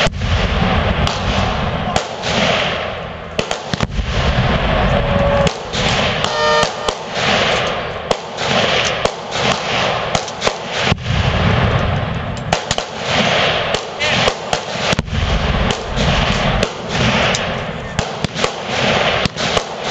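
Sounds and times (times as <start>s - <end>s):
rifle shots: 0.0s - 19.9s
steady rush of noise: 0.0s - 19.9s.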